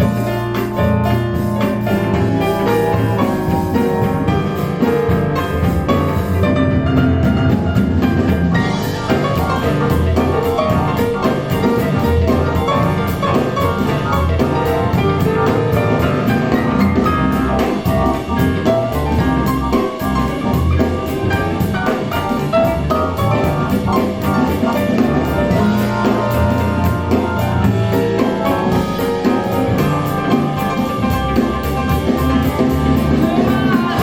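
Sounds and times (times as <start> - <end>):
jazz piano and drums music: 0.0 - 34.0.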